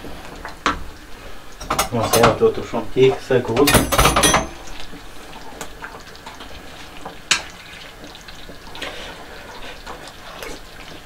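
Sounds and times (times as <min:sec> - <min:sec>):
sauce simmering in a pot: 0:00.0 - 0:03.7, 0:04.5 - 0:11.0.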